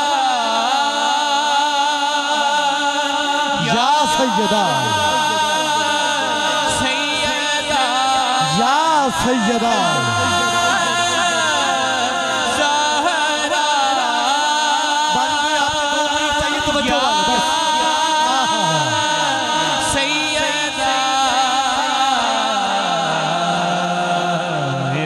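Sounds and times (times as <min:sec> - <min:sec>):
lead voice chanting: 0:00.0 - 0:25.0
voices holding a drone note: 0:03.4 - 0:25.0.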